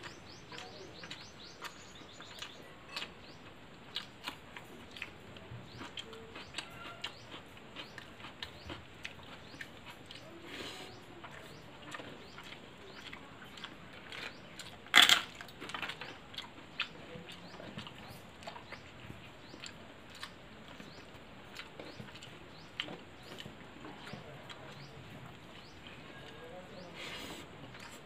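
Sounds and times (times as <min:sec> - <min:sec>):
fingers mixing food on steel plate: 0:00.0 - 0:28.0
wet chewing: 0:00.0 - 0:28.0.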